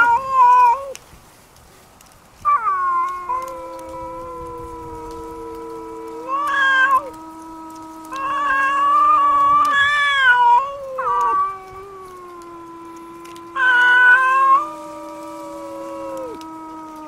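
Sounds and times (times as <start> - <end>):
cats yowling in a fight: 0.0 - 1.0, 2.5 - 17.0.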